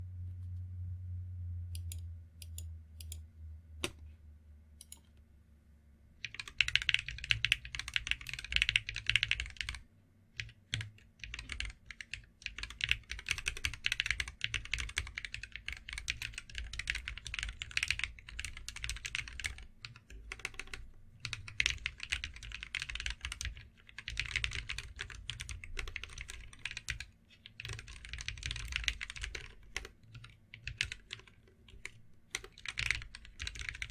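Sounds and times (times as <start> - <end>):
mechanical keyboard typing: 4.8 - 5.0, 6.2 - 9.8, 10.4 - 33.9.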